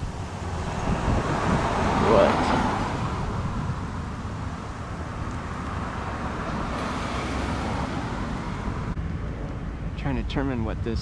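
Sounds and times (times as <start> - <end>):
passing cars rushing: 0.0 - 10.0.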